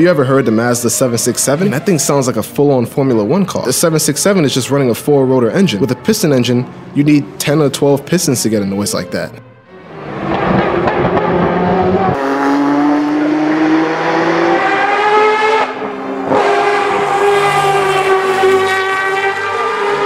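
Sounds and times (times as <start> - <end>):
race car engine wailing: 0.0 - 20.0.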